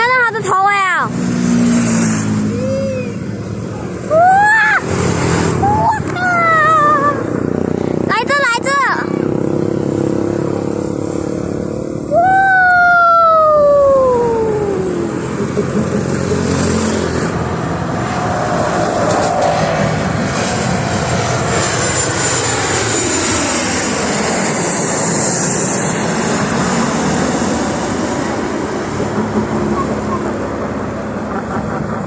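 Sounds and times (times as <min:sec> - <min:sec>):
airplane flying low overhead: 0:00.0 - 0:32.0.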